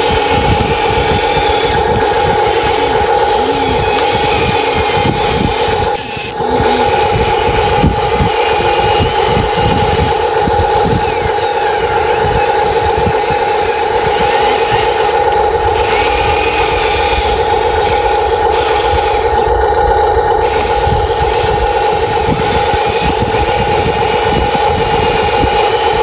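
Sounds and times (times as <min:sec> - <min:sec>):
model excavator motor whining: 0:00.0 - 0:26.0.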